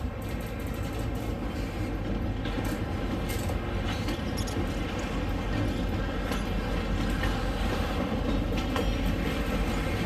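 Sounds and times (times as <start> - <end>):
model train rumbling: 0.0 - 10.0
wheels clicking over rails: 0.0 - 10.0.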